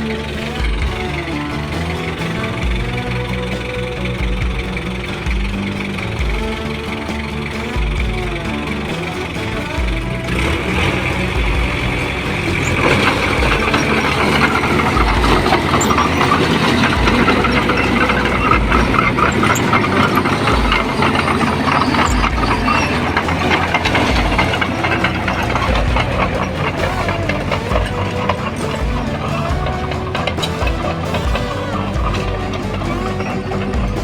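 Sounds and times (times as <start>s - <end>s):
heavy machine engine running: 0.0s - 34.0s
rapid metallic clatter: 0.0s - 34.0s.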